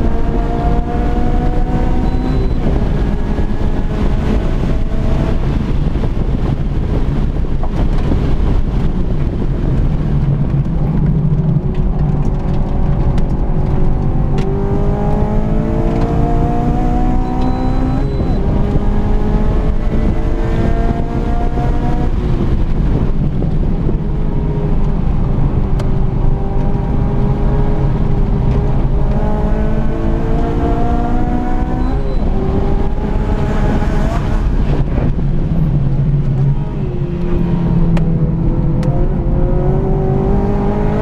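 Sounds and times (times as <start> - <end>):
car engine accelerating: 0.0 - 41.0
road noise: 0.0 - 41.0.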